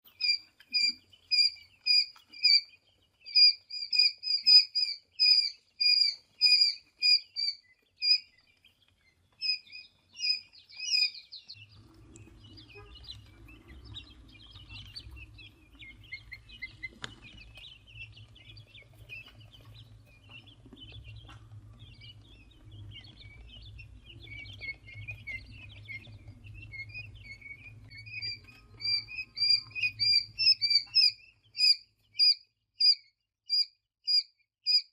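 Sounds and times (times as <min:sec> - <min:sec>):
tiny birds chirping: 0:00.0 - 0:34.9.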